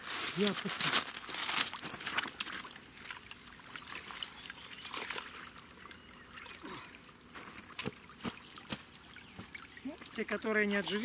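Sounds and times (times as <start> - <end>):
water trickling and lapping: 0.1 - 11.0
short water splashes: 0.8 - 11.0.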